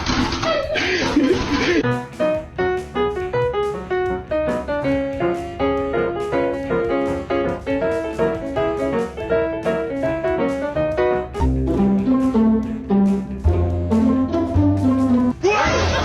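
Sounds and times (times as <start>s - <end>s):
lively piano music: 0.0s - 15.6s.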